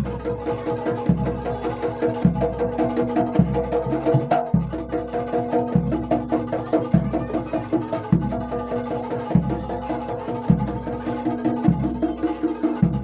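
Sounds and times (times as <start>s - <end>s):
pitched percussion pattern: 0.0s - 13.0s.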